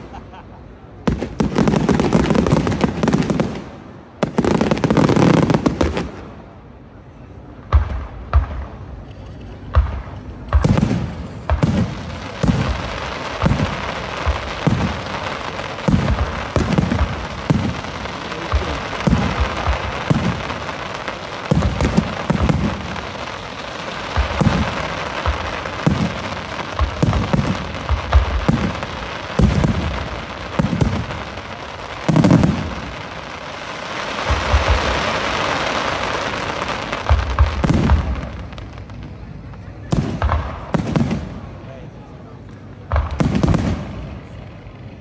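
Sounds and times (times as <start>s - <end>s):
crackling hiss: 0.0s - 45.0s.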